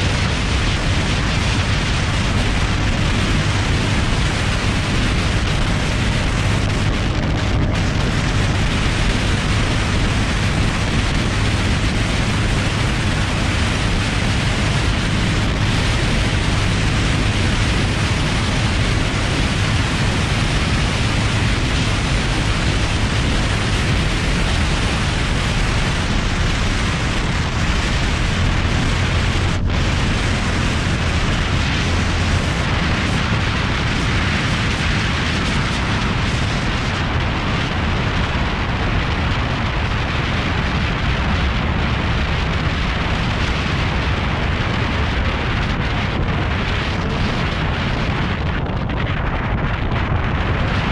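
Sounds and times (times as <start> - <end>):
motorcycle engine running: 0.0 - 50.9
wind rush on microphone: 0.0 - 50.9.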